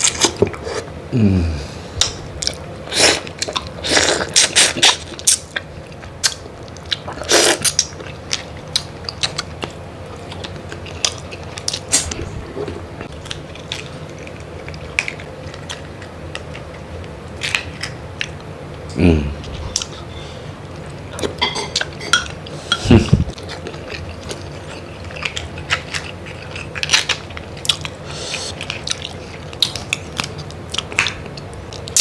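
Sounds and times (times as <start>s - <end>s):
chewing: 2.0s - 20.1s, 20.7s - 32.0s.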